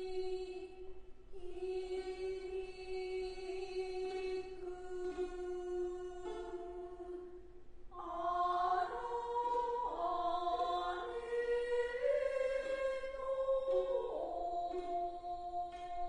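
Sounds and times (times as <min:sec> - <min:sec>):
person singing long notes: 0:00.0 - 0:16.0.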